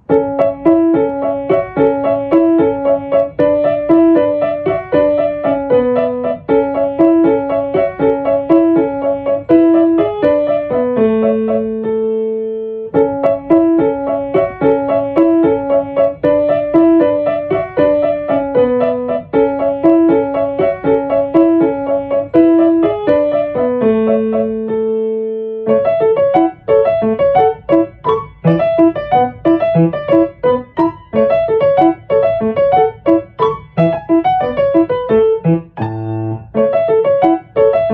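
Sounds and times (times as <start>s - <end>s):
solo piano music: 0.0s - 37.9s.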